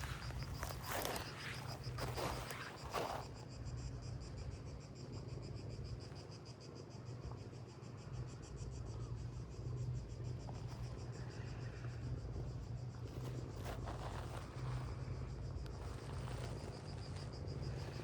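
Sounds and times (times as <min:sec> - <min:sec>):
insects trilling: 0:00.0 - 0:18.0
steady low rumble: 0:00.0 - 0:18.0.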